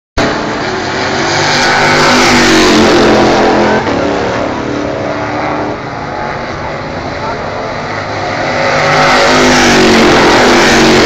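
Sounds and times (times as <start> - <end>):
race car engine passing by: 0.2 - 11.0.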